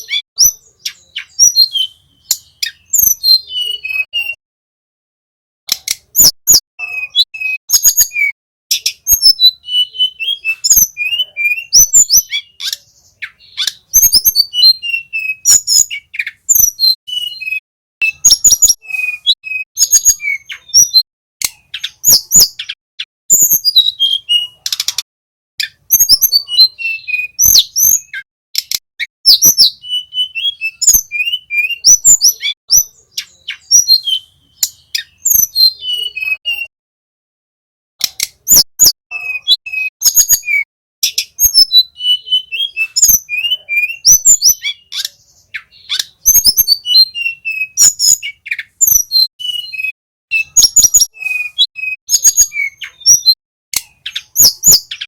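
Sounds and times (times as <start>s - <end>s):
bird song of ticks and chirps: 0.0s - 4.4s, 5.7s - 36.7s, 38.0s - 55.0s.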